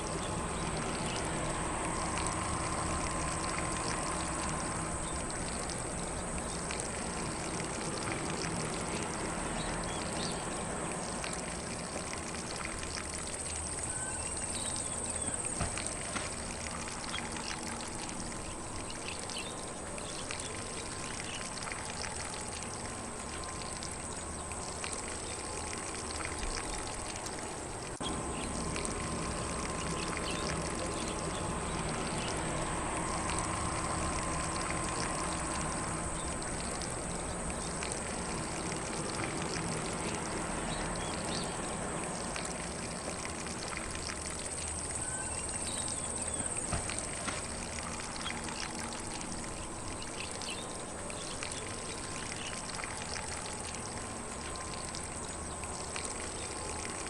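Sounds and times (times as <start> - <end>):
faint birdsong: 0.0 - 43.1, 43.7 - 57.0
lawn sprinkler spraying water: 0.0 - 57.0.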